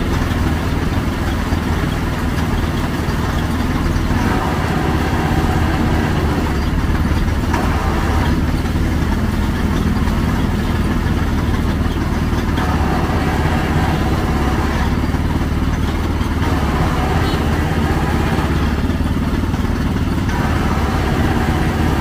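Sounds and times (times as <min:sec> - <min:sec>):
juice press motor humming: 0:00.0 - 0:22.0.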